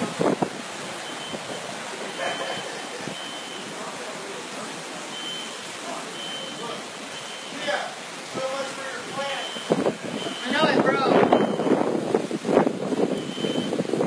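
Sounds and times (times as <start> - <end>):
hurricane wind: 0.0 - 14.0
rushing water: 0.0 - 14.0.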